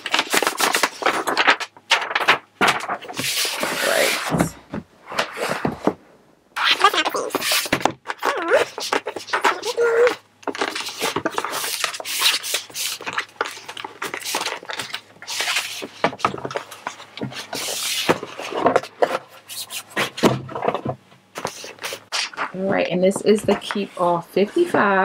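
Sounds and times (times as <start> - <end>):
cardboard scraping and rustling: 0.0 - 6.0, 6.8 - 25.0.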